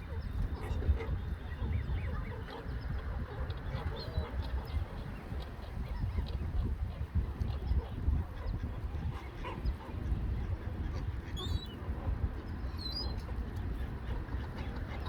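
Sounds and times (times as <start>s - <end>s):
ducks and geese calling: 0.0s - 15.0s.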